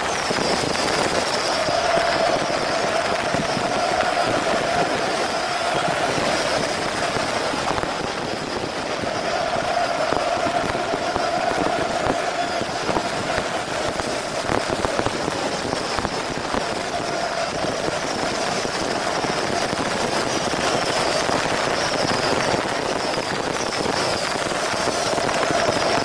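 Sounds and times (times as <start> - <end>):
firecracker bangs: 0.0 - 26.0
stadium crowd roaring: 0.0 - 26.0.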